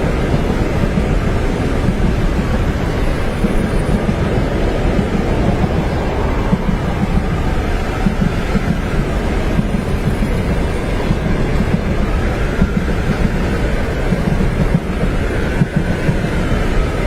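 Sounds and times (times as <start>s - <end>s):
train rumbling on tracks: 0.0s - 17.0s.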